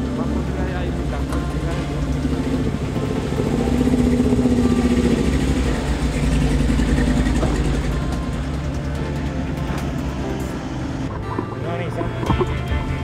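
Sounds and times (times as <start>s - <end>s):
truck engine pulling under throttle: 0.0s - 13.0s.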